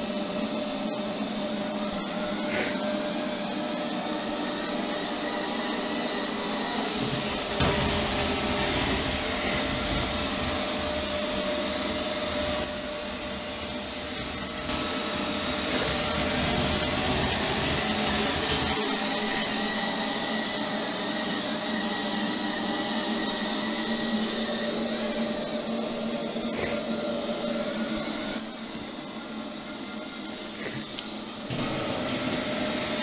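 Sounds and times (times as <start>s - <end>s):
robot vacuum whirring: 0.0s - 33.0s.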